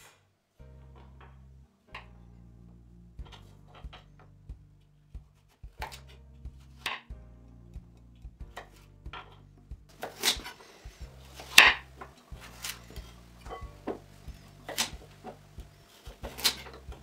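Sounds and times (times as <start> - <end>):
background music: 0.1 - 17.0.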